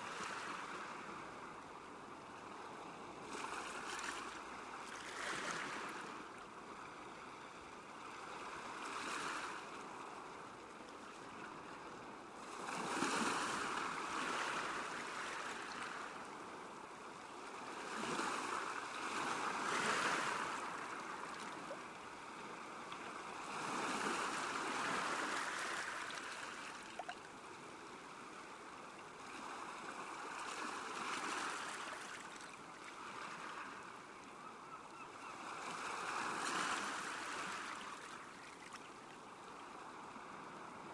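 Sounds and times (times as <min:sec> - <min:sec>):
small waves lapping on shore: 0:00.0 - 0:40.9.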